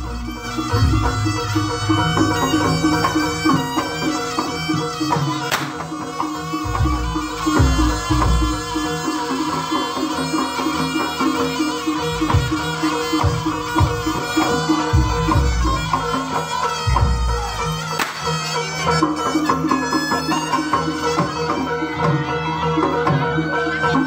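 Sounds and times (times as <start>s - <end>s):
reedy wind instrument melody: 0.0s - 24.0s.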